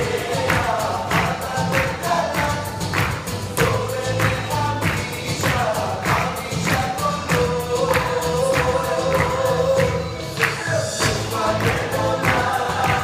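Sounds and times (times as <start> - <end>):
band playing: 0.0 - 13.0
steady drum beat: 0.0 - 13.0
voices singing: 0.0 - 13.0.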